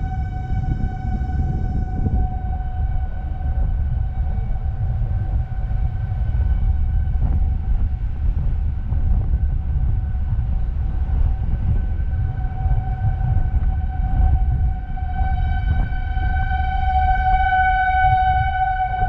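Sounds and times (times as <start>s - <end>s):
heavy low rumble: 0.0s - 19.0s
steady siren: 0.0s - 19.0s.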